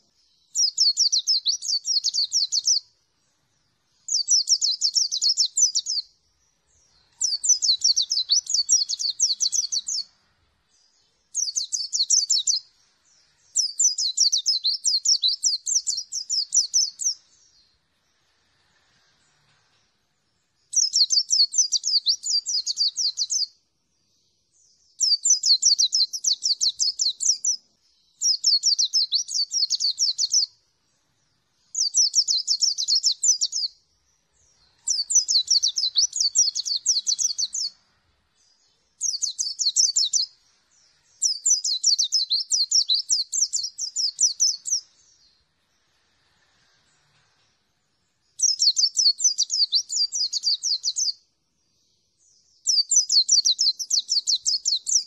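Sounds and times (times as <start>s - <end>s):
bird high twittering song: 0.0s - 55.0s.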